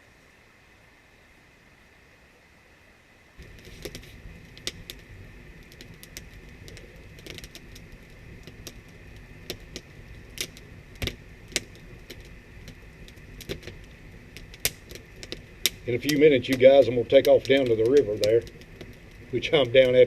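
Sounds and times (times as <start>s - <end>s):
campfire crackling and popping: 3.4s - 20.0s.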